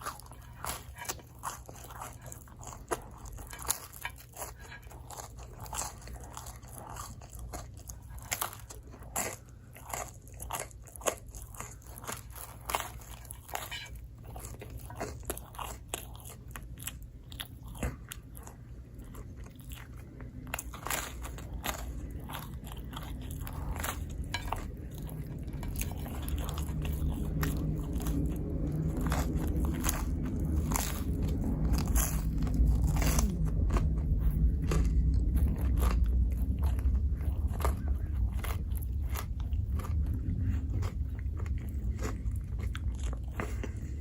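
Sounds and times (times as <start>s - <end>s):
chewing and crunching food: 0.0s - 44.0s
low hum: 0.0s - 44.0s.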